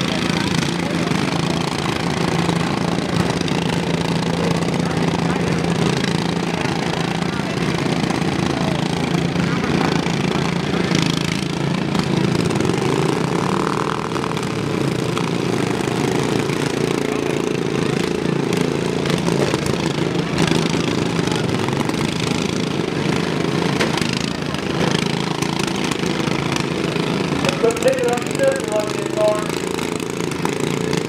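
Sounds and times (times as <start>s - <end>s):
riding lawn mower engines droning: 0.0s - 31.0s.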